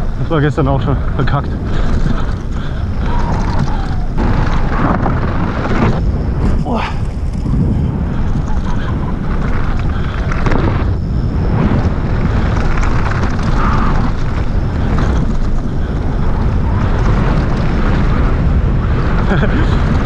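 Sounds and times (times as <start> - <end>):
tyres rumbling on dirt trail: 0.0 - 20.0
wind buffeting microphone: 0.0 - 20.0.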